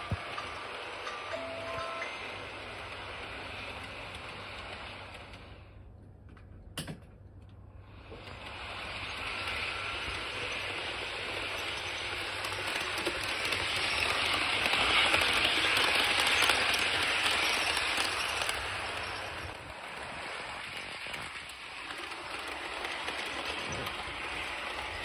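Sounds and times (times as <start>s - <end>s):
model train running on track: 0.0s - 6.9s, 7.5s - 25.0s.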